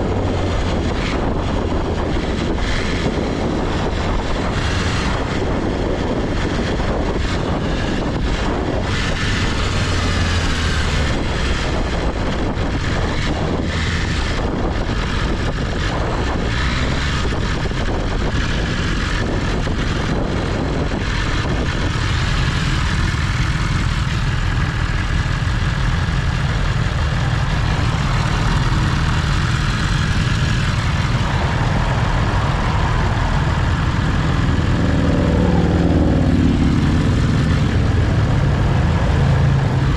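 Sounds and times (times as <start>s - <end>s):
motorcycle engine running: 0.0s - 39.9s
riding wind rushing: 0.0s - 39.9s.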